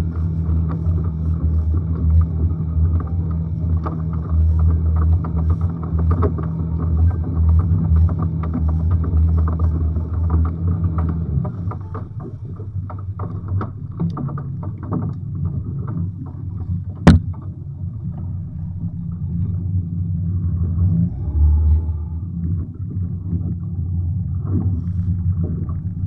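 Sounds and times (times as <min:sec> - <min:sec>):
boat engine running low: 0:00.0 - 0:26.0.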